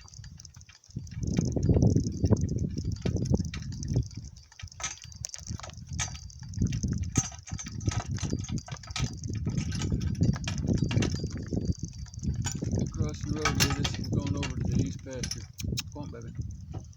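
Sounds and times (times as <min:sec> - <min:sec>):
cart jolting over rough ground: 0:00.0 - 0:16.9
hooves clopping: 0:00.0 - 0:16.9.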